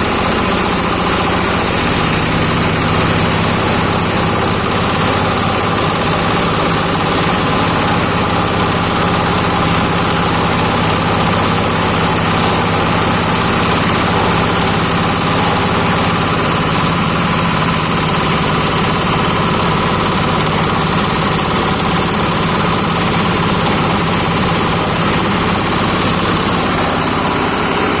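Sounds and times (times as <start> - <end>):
grinding machine drone: 0.0 - 28.0.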